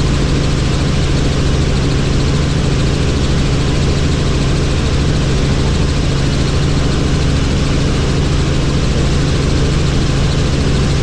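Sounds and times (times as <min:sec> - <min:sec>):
helicopter in flight: 0:00.0 - 0:11.0.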